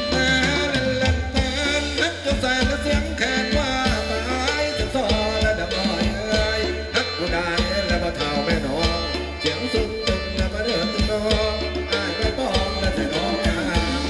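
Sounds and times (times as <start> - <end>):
steady drum beat: 0.0 - 14.0
sustained bass: 0.0 - 14.0.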